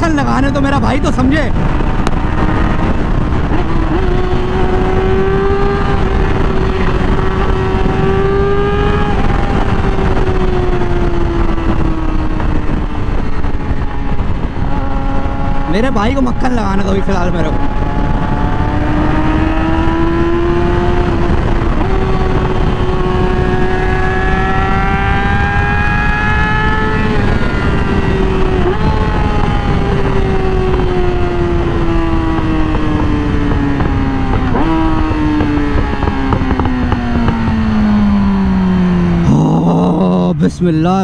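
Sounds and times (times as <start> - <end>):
motorcycle engine: 0.0 - 41.0
wind rush: 0.0 - 41.0.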